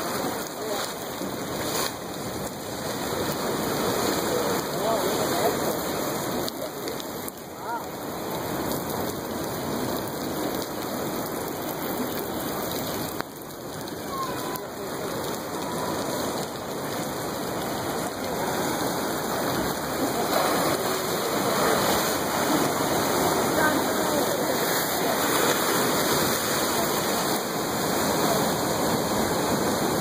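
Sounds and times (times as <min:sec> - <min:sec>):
ocean surf and breaking waves: 0:00.0 - 0:30.0.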